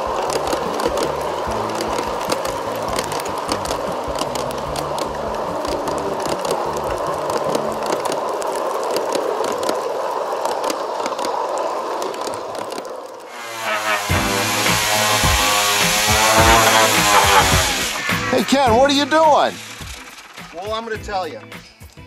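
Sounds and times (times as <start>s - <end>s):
wheels clicking over rail joints: 0.0s - 13.3s, 14.5s - 21.6s
model train wheels rumbling: 0.0s - 21.4s.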